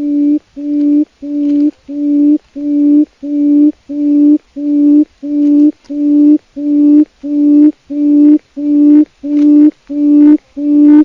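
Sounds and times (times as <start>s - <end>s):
quail calling: 0.0s - 11.0s.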